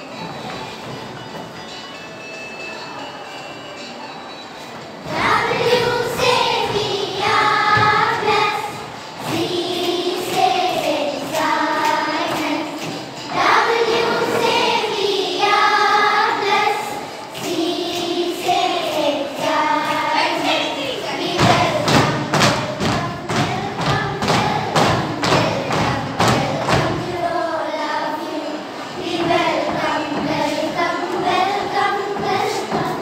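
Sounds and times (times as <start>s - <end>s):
girls singing together: 5.0s - 33.0s.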